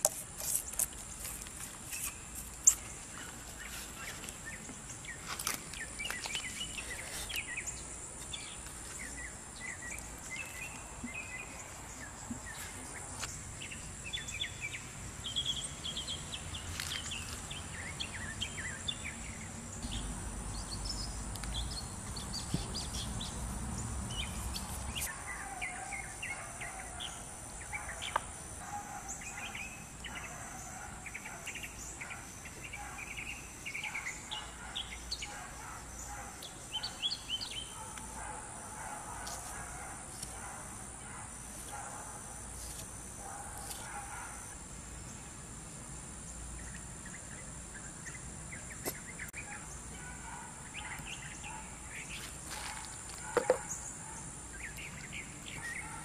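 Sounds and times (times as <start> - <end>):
outdoor background noise: 0.0 - 56.0
songbirds chirping: 0.4 - 56.0.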